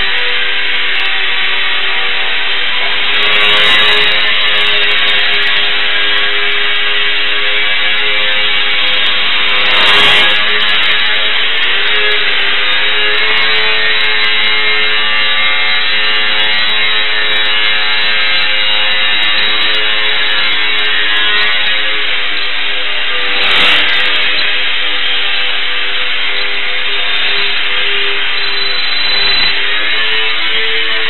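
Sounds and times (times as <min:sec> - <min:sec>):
model plane motor buzzing: 0:00.0 - 0:31.0.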